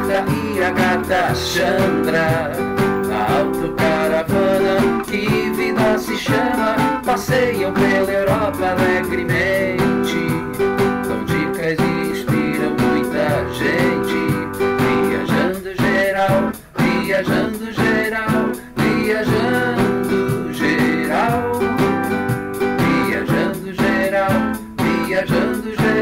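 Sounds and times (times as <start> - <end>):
acoustic guitar strumming: 0.0 - 26.0
person singing: 0.0 - 26.0.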